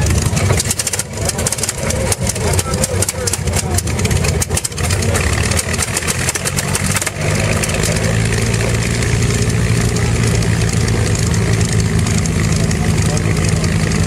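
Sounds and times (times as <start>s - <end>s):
aircraft engine popping and idling: 0.0s - 14.0s.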